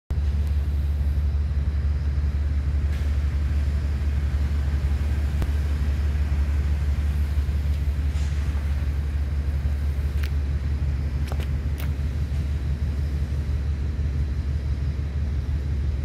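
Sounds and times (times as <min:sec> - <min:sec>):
low machine rumble: 0:00.1 - 0:16.0.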